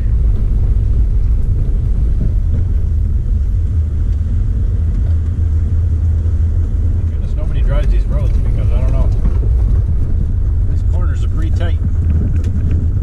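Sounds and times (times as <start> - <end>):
truck driving on gravel: 0.0 - 13.0.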